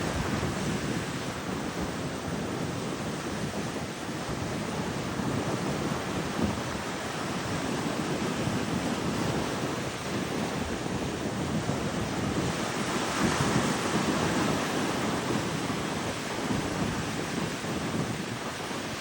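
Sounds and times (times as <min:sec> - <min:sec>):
ocean surf on a beach: 0:00.0 - 0:19.0
wind buffeting microphone: 0:00.0 - 0:19.0.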